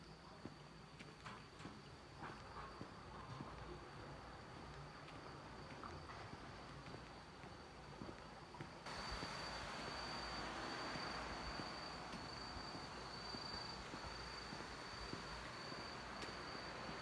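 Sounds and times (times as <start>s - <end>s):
crickets chirring: 0.0s - 17.0s
soft background hiss: 0.0s - 17.0s.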